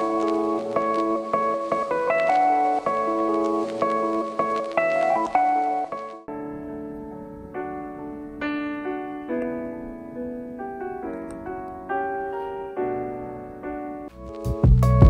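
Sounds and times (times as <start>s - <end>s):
slow solo piano piece: 0.0s - 14.2s.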